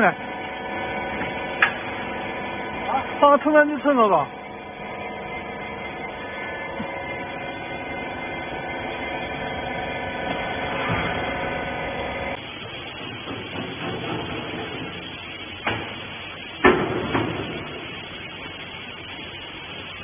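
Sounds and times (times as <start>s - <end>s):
electric motor and pump humming: 0.0s - 20.0s.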